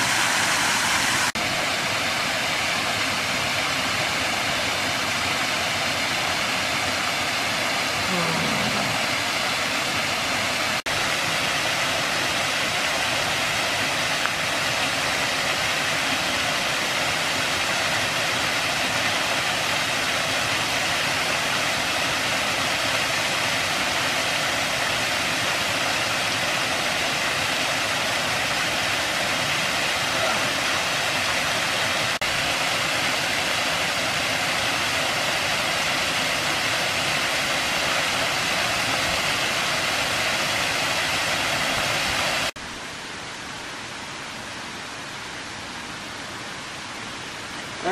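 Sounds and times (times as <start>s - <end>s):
waterfall splashing into pool: 0.0s - 42.6s.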